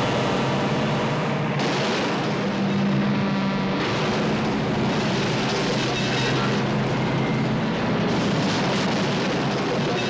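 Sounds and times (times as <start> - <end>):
continuous rushing noise: 0.0 - 10.0
truck engines running: 0.0 - 10.0.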